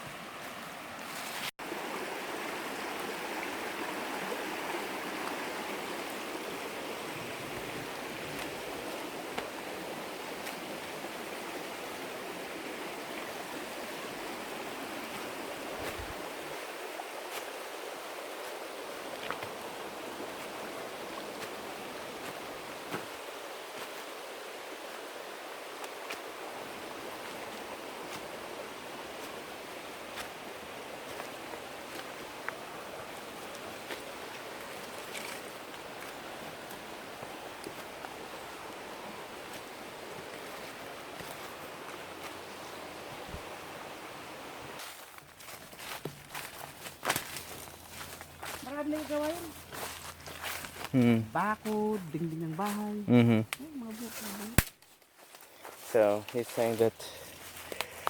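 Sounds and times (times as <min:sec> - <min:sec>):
flowing water rushing: 0:00.0 - 0:52.8, 0:55.5 - 0:58.0.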